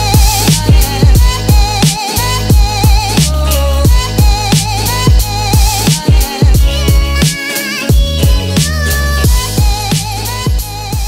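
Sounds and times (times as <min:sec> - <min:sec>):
heavy bass drum hits: 0:00.1 - 0:01.9, 0:02.5 - 0:07.3, 0:07.9 - 0:11.0.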